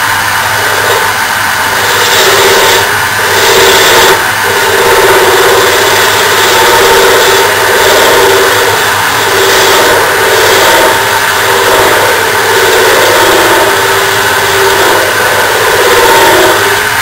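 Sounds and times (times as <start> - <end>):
wood lathe turning: 0.0 - 17.0.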